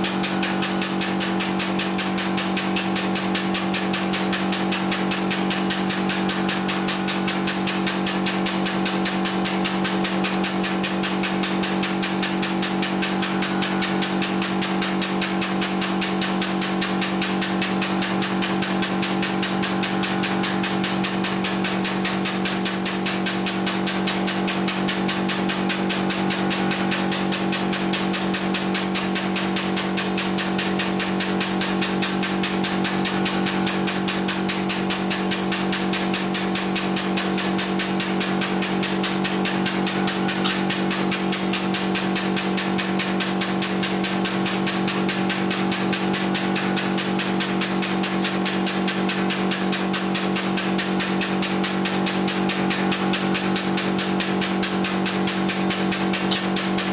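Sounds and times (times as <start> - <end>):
hydraulic pump pulsing hum: 0.0 - 56.9.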